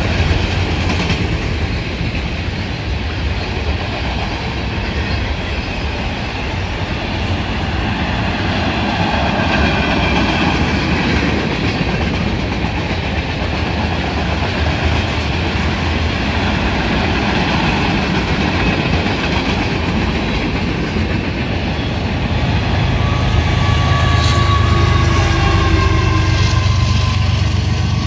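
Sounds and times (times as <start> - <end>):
diesel locomotive engine hum and whine: 0.0 - 28.0
freight train wheels clicking on rails: 0.0 - 28.0.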